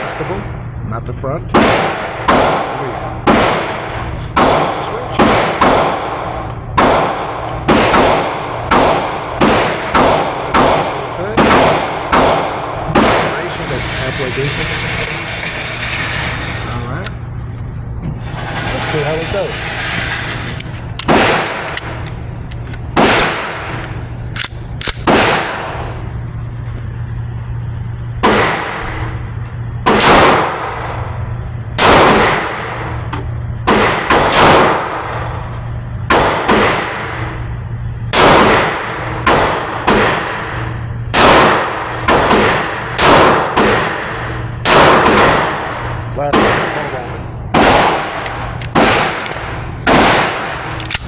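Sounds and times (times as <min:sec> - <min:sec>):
pistol shots ringing: 0:01.5 - 0:17.2, 0:18.4 - 0:25.9, 0:29.8 - 0:37.3, 0:38.1 - 0:51.0.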